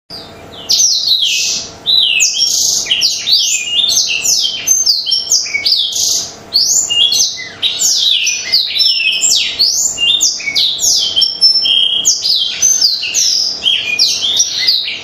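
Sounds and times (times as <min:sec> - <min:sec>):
canary singing: 0:00.1 - 0:15.0.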